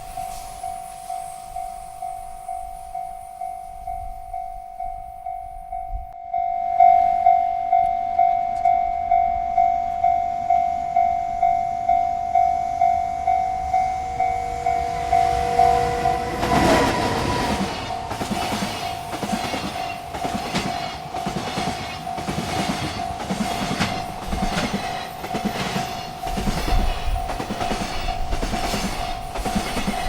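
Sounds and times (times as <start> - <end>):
freight train approaching: 0.0 - 30.0
railroad crossing bell ringing: 0.0 - 30.0.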